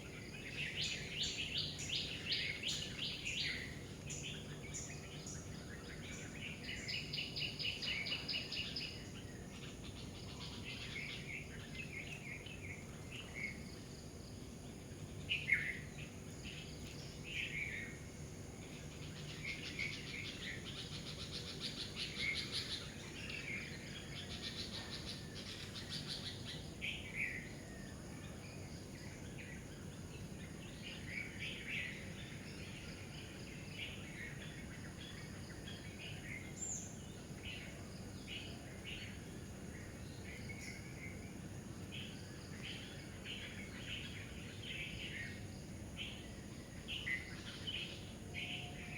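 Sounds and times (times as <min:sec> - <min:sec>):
birds calling and singing: 0:00.0 - 0:48.9
faint insect hum: 0:00.0 - 0:48.9.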